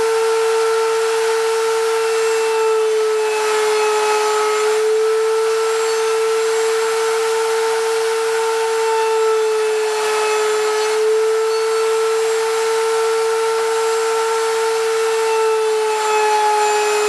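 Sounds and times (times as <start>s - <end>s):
electric router whining: 0.0s - 17.0s
router bit cutting wood: 0.0s - 17.0s.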